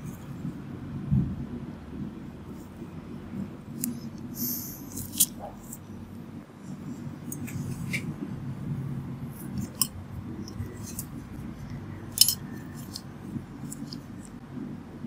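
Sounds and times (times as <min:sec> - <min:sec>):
low rumbling background: 0:00.0 - 0:15.0.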